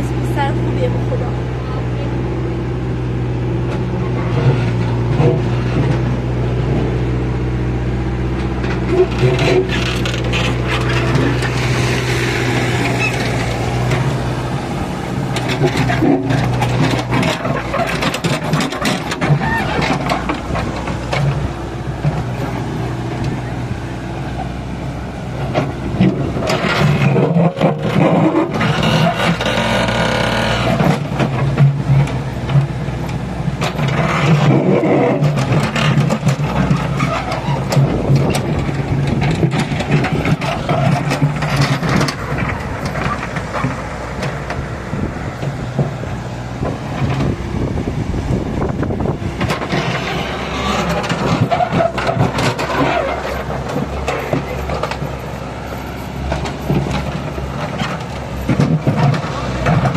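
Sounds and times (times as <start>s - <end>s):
excavator engine under load: 0.0s - 59.9s
bucket scraping stony ground: 8.3s - 23.5s, 25.4s - 59.9s.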